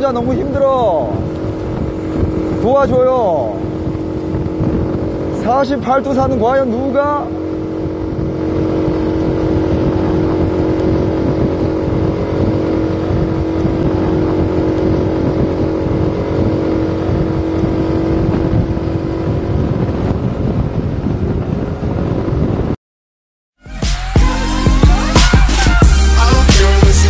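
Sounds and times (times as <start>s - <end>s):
road and wind noise: 0.0s - 22.8s
vehicle engine hum: 0.0s - 22.8s.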